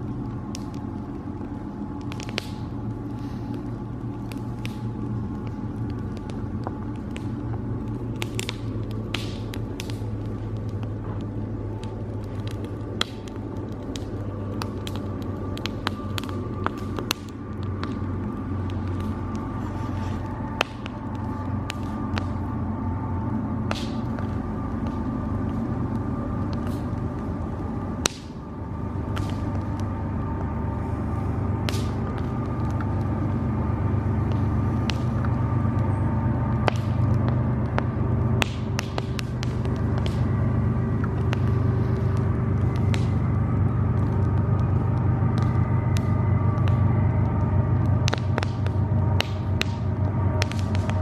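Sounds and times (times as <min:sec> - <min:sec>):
campfire crackling and popping: 0:00.0 - 0:51.0
faint steady tones: 0:00.0 - 0:51.0
steady low rumble: 0:00.0 - 0:51.0
loud wood snap: 0:00.5 - 0:03.3, 0:04.1 - 0:19.7, 0:20.5 - 0:22.4, 0:23.6 - 0:27.2, 0:28.0 - 0:28.4, 0:29.1 - 0:29.9, 0:31.6 - 0:33.3, 0:34.1 - 0:35.9, 0:36.5 - 0:51.0.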